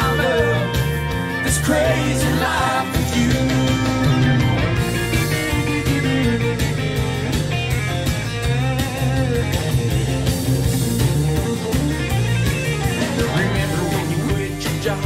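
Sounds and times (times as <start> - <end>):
instrumental country music: 0.0 - 15.0.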